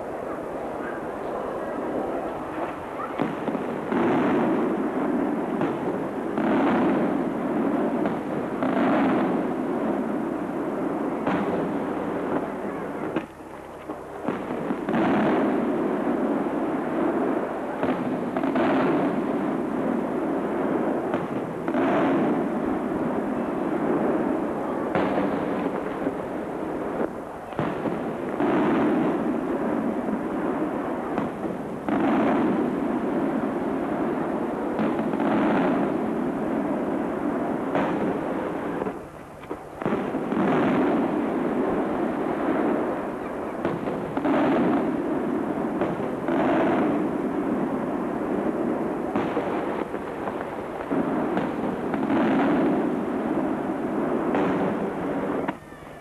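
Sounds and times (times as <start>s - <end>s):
firework shells booming: 0.8s - 55.8s.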